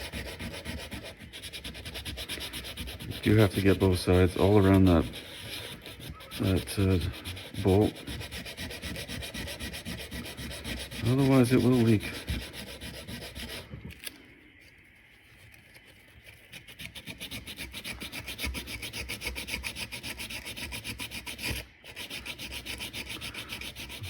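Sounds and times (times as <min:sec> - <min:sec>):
sandpaper rubbing on metal: 0:00.0 - 0:13.7, 0:15.0 - 0:24.0.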